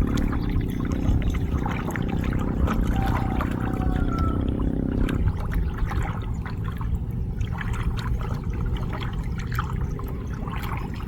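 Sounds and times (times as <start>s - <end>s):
low steady hum: 0.0s - 11.0s
small clicks and drips: 0.0s - 11.0s
water trickling and splashing: 0.0s - 11.0s.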